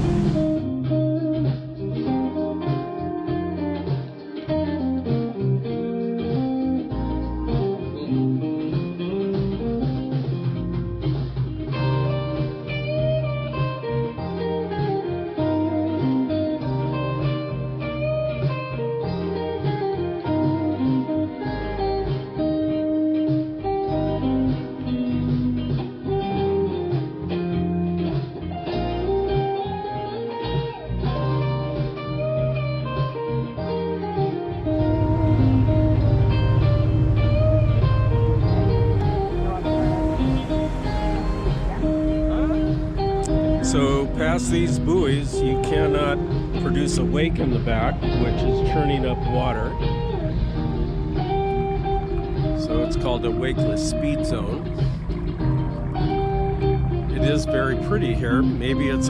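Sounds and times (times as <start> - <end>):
bass line: 0.0 - 23.0, 34.5 - 59.0
blues guitar music: 0.0 - 59.0.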